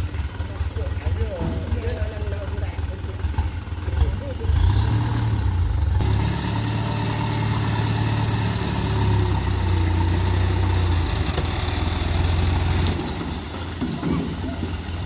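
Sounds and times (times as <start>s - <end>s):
dump truck engine running: 0.0s - 15.0s.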